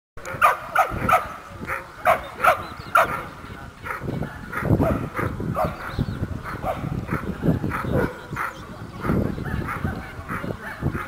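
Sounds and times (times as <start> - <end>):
dog barking: 0.2 - 11.0.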